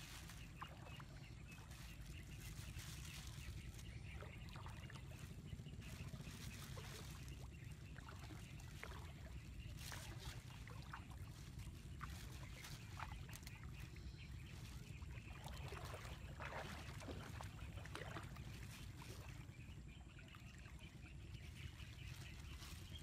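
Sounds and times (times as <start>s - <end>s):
water splashing and dripping: 0.0s - 13.8s, 14.6s - 19.5s
steady low rumble: 0.0s - 23.0s.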